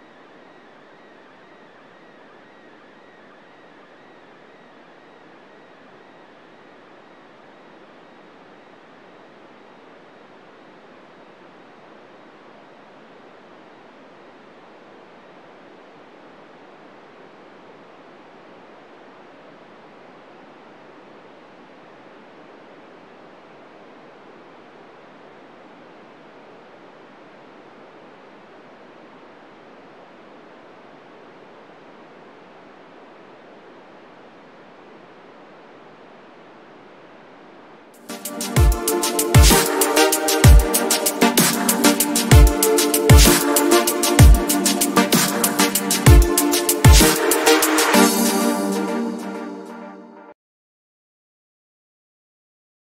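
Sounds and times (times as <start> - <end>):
radio static hiss: 0.0 - 49.5.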